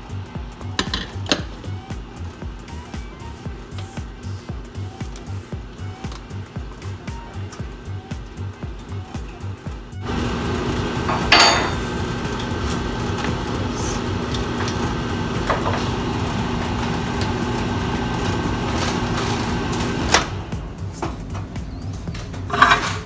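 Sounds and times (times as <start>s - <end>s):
microwave hum and fan: 0.0s - 23.0s.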